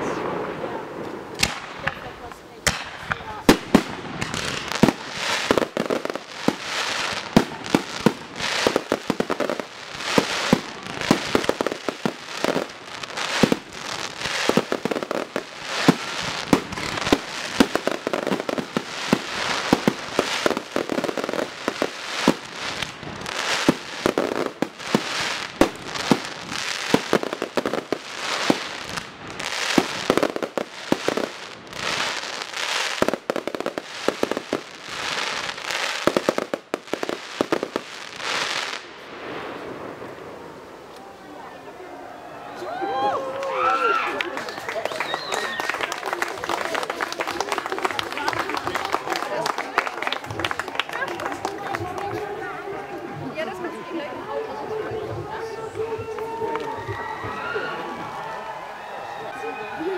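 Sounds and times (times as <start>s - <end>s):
fireworks bursting: 0.0s - 41.5s, 43.4s - 57.4s.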